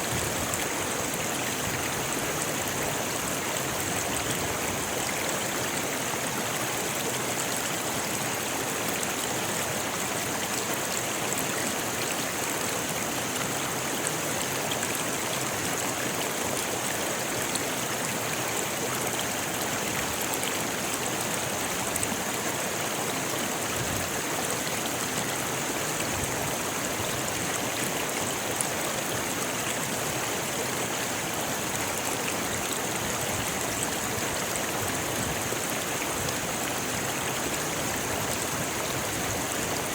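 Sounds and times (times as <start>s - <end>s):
water rushing over stones: 0.0s - 39.9s.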